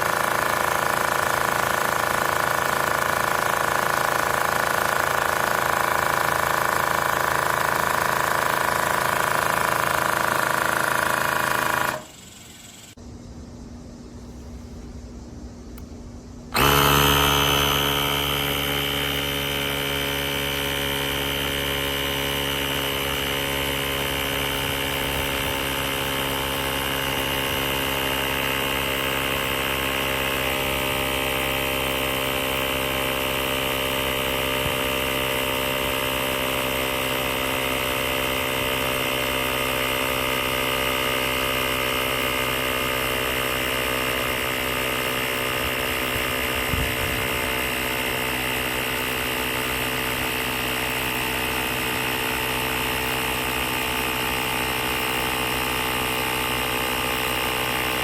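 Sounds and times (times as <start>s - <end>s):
electric air compressor running: 0.0s - 13.0s, 14.1s - 58.0s.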